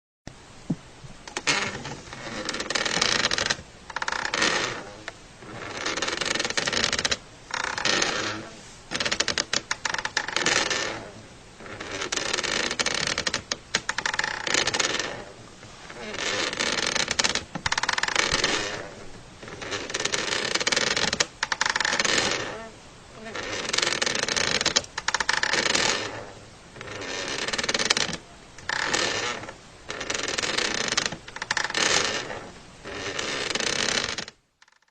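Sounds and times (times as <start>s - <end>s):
chair creaking: 1.3s - 34.9s.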